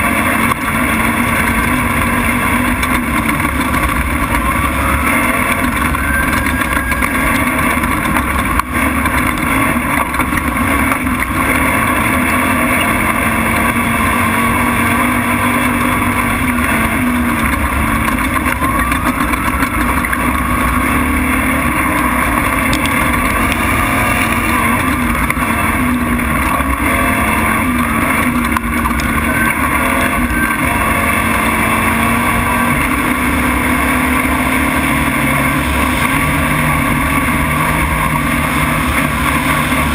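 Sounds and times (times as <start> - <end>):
truck engine running hard: 0.0 - 39.9
wind and road noise: 0.0 - 39.9.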